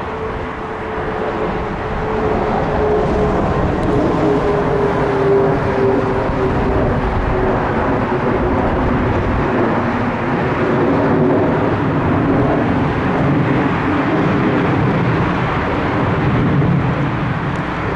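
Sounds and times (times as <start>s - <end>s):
jet engine roar: 0.0s - 17.9s.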